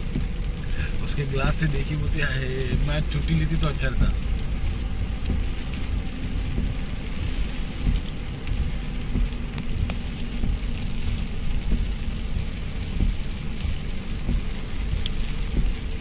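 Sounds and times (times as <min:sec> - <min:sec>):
rain hitting car roof: 0:00.0 - 0:16.0
tyres and engine rumble: 0:00.0 - 0:16.0.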